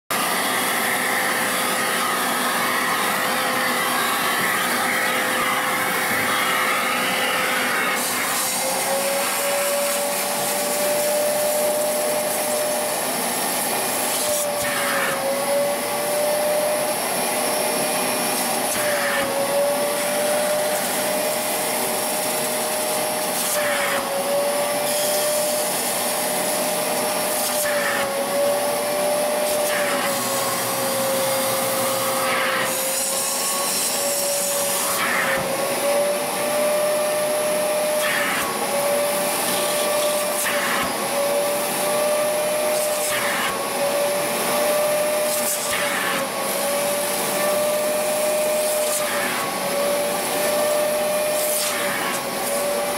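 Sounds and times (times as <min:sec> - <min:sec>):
wet vacuum motor whine: 0:00.1 - 0:52.9.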